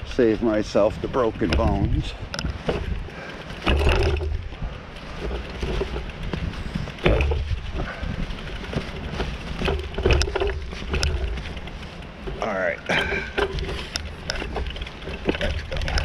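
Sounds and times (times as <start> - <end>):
bicycle rattling and knocking: 0.0 - 16.0
wind rumbling on microphone: 0.0 - 16.0.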